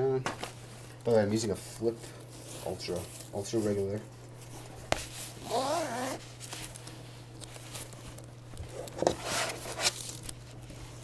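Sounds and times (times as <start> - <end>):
laptop sleeve rustling: 0.6 - 11.0.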